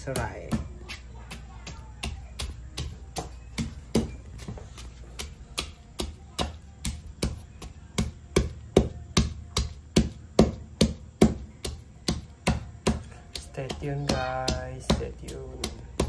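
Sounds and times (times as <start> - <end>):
pestle pounding in stone mortar: 0.0 - 16.0.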